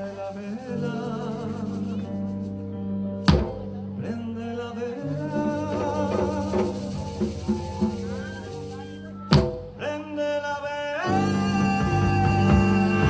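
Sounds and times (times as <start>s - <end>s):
person singing: 0.0s - 2.5s, 3.4s - 13.0s.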